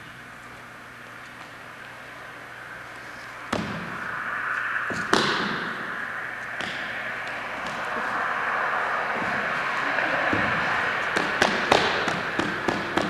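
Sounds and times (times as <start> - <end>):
hissing droning noise music: 0.0 - 13.0.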